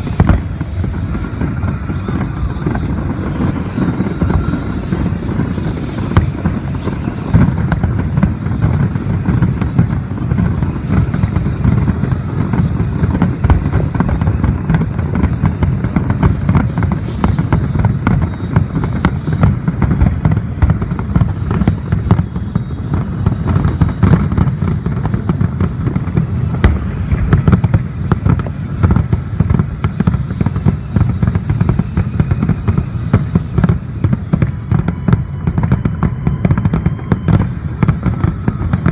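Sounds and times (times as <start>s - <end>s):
fireworks exploding: 0.0s - 38.9s.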